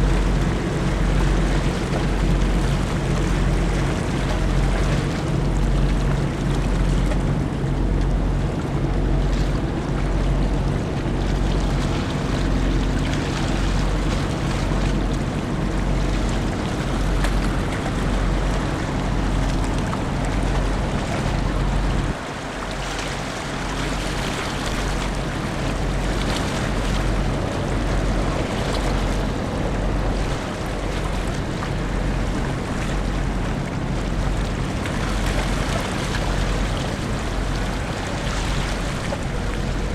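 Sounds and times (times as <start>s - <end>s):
rushing wind: 0.0s - 39.9s
water noise: 0.0s - 39.9s.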